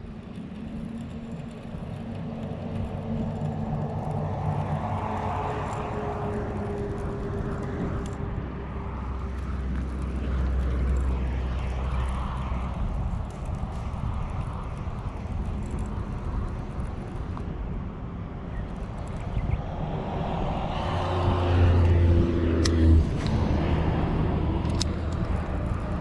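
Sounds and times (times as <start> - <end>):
low rumble: 0.0 - 26.0
passing vehicle engine hum: 0.4 - 26.0.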